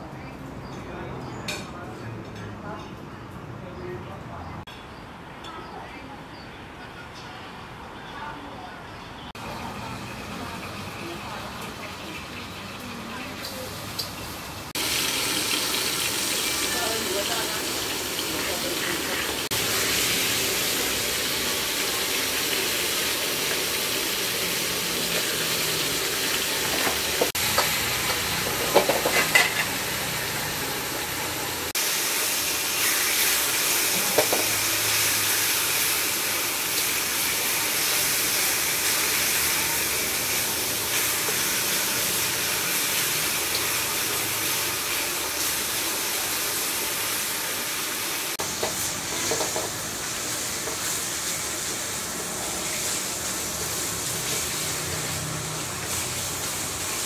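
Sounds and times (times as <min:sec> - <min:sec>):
food sizzling in a pan: 0:09.4 - 0:57.0.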